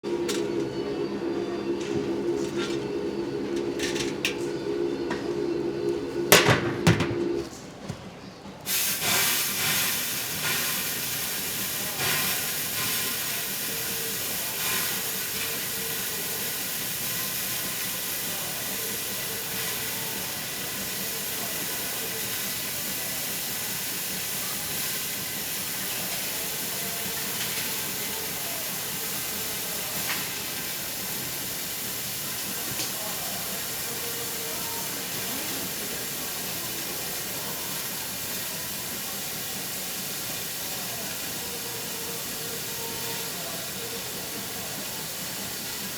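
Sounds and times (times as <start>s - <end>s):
steam hissing from a steamer: 8.7s - 45.9s.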